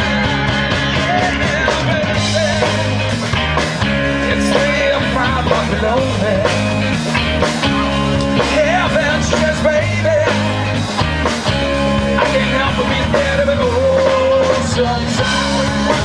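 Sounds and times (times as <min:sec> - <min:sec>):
drum kit beat: 0:00.0 - 0:16.0
electric guitars: 0:00.0 - 0:16.0.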